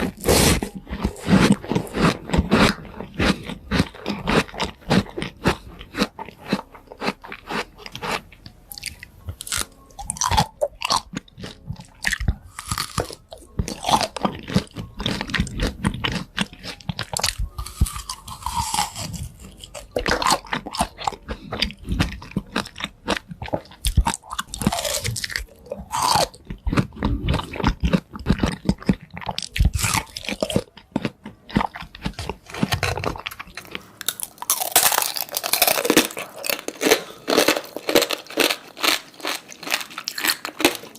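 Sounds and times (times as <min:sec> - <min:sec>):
fruit crunching and chewing: 0:00.0 - 0:40.9.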